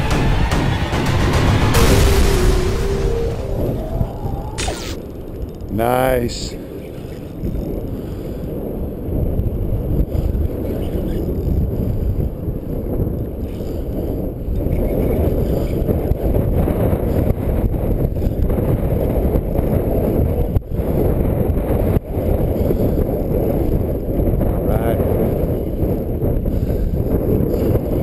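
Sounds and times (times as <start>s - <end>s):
wind buffeting microphone: 3.1s - 28.0s.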